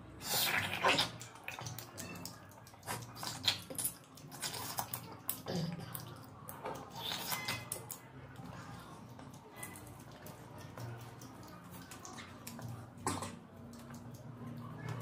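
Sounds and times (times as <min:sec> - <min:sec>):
wet chewing and lip smacking: 0:00.2 - 0:15.0.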